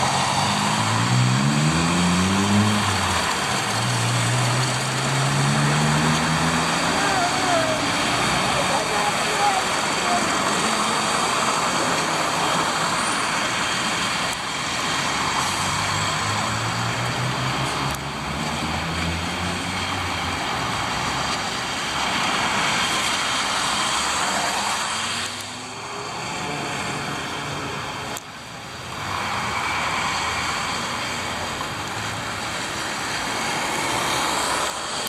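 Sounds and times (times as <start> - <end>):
truck diesel engine droning: 0.0 - 35.0
tyres hissing on wet road: 0.0 - 35.0.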